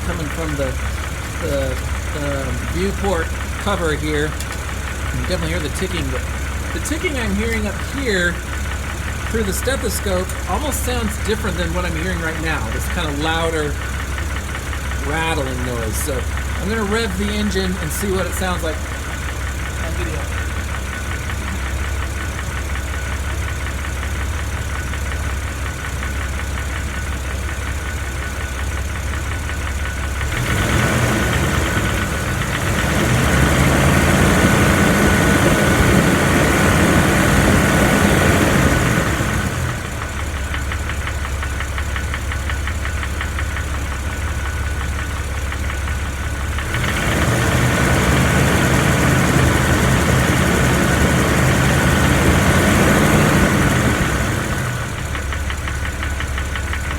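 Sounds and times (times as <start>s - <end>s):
engine idling and revving: 0.0s - 56.9s
ticking rattling engine noise: 0.0s - 56.9s.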